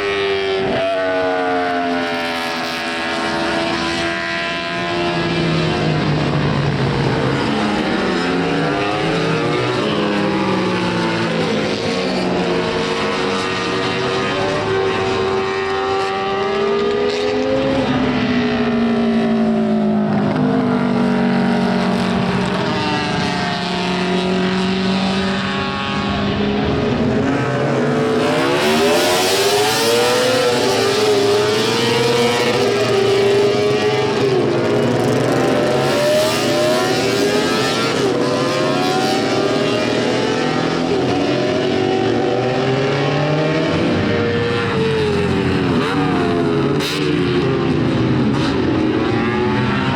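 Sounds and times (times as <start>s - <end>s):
racing motorcycles at high revs: 0.0s - 49.9s.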